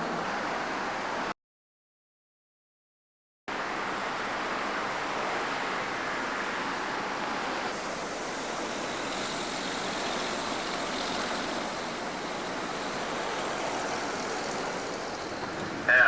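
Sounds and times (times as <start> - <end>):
bus road and engine noise: 0.0 - 1.4, 3.5 - 16.0.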